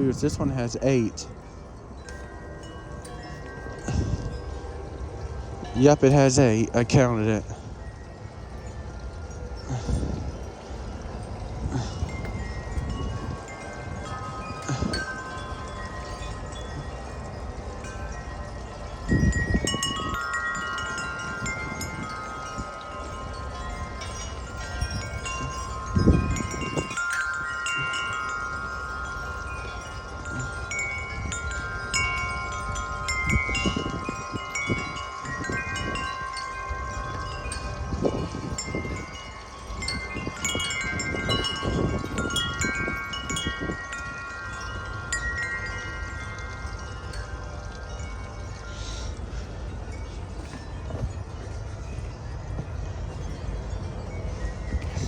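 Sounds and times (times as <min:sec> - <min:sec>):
metal wind chime ringing: 0:00.0 - 0:55.0
wind rumbling on microphone: 0:00.0 - 0:55.0.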